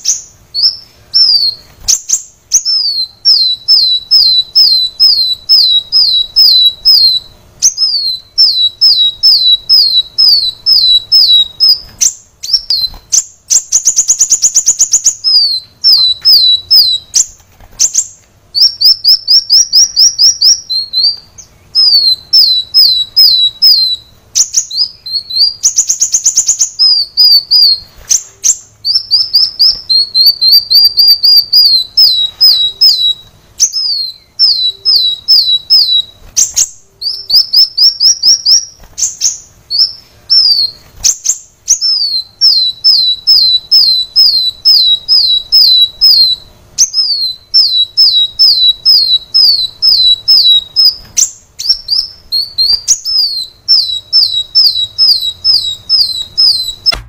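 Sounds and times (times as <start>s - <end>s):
fast buzzy bird trill: 0.0s - 57.0s
sunbird singing: 0.0s - 57.0s.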